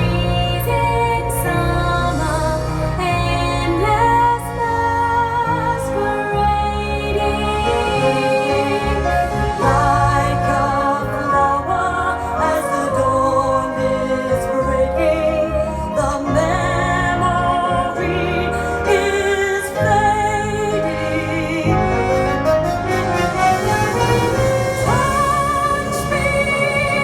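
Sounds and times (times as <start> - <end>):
classical accompaniment: 0.0 - 27.0
operatic singing: 0.0 - 27.0.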